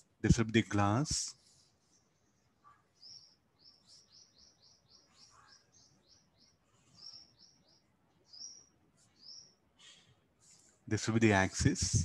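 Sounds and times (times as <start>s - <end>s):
faint bird chirping: 1.3s - 12.0s.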